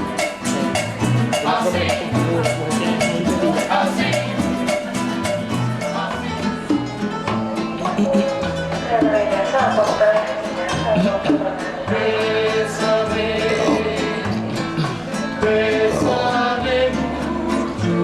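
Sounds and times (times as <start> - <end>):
salsa dance music: 0.0 - 18.0.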